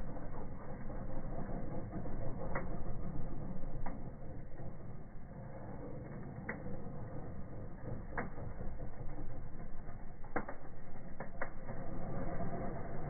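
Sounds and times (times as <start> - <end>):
crackling fizz of sparks: 0.0 - 13.0.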